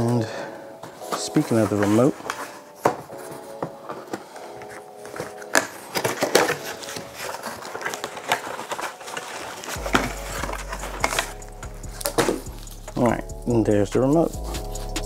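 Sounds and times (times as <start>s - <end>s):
cardboard and foam rustling: 0.8s - 13.1s.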